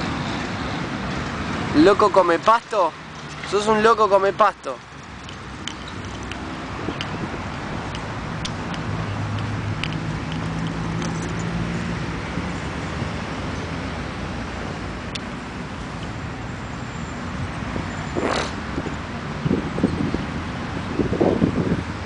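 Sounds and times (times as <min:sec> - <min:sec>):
road traffic: 0:00.0 - 0:22.0
vehicle engine hum: 0:00.0 - 0:22.0.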